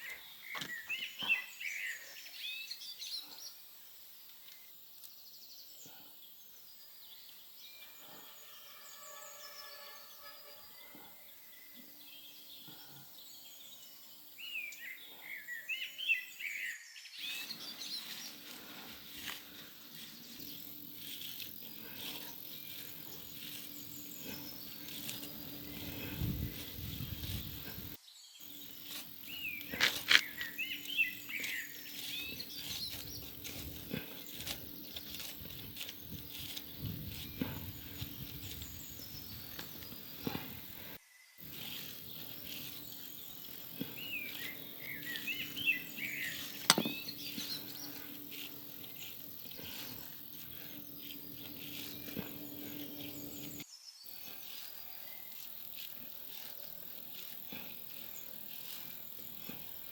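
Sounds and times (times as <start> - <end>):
birds chirping: 0.0 - 3.6, 5.3 - 59.9
outdoor background noise: 0.0 - 59.9.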